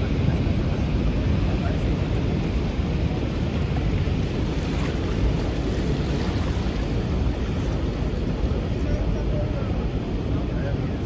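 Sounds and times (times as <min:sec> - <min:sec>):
churning river water: 0:00.0 - 0:11.0.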